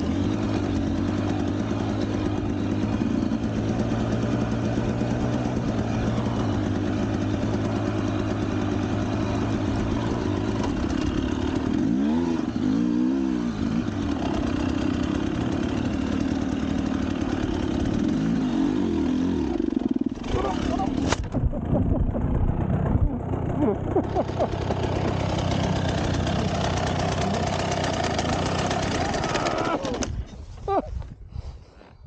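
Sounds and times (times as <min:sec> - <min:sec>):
motorcycle engine idling and revving: 0:00.0 - 0:30.8.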